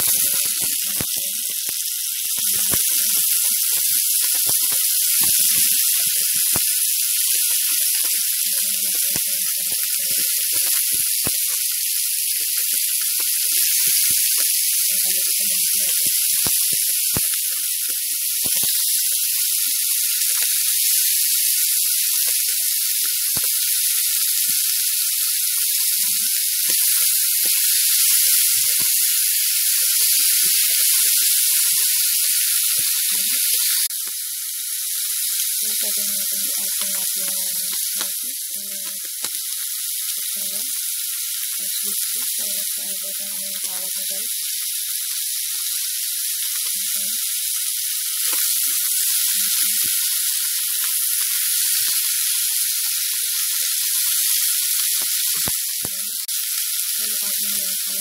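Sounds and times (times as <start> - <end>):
mushrooms sizzling in a frying pan: 0.0 - 58.0.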